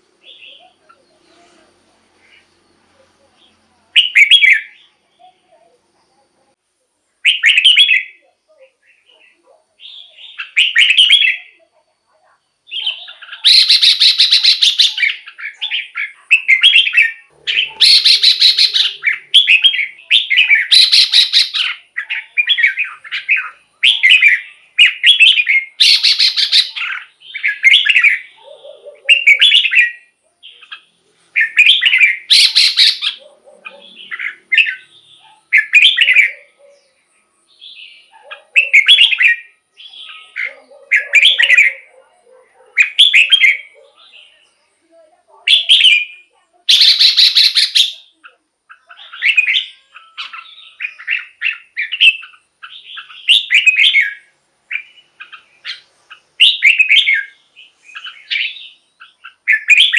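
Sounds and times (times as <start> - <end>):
bulbul singing: 0.0 - 6.2, 7.2 - 11.7, 12.6 - 42.1, 45.4 - 59.9.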